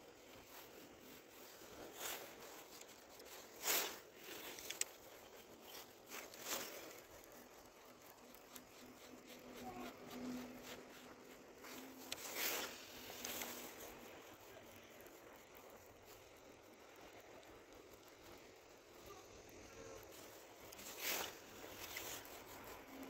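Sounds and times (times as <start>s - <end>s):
faint low hum: 0.0s - 23.0s
jacket sleeve brushing camera: 0.0s - 23.0s.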